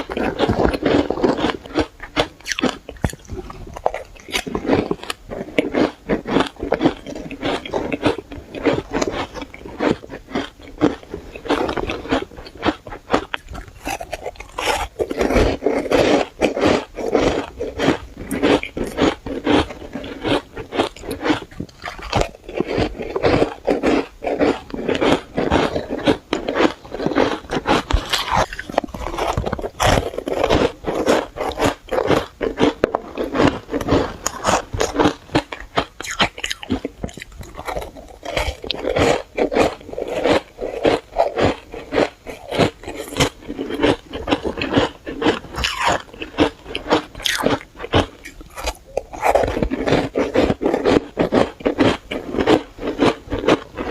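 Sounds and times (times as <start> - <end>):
chewing shaved ice: 0.0 - 53.9.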